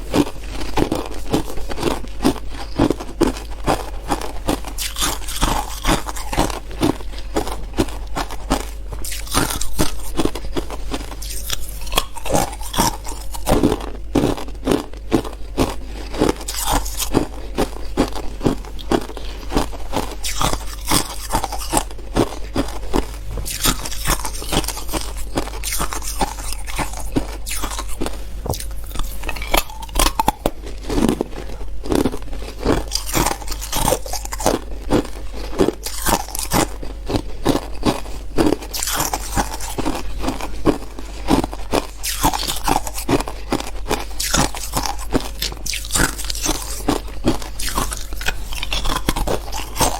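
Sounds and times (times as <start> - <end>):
person chewing ice crunching: 0.0 - 49.9.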